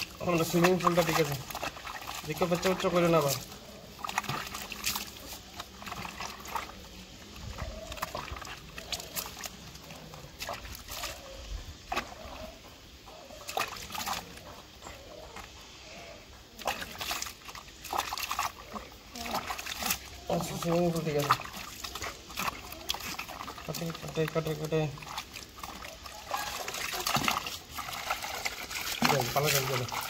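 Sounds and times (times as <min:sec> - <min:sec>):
water sloshing and splashing: 0:00.0 - 0:15.6, 0:16.2 - 0:30.0.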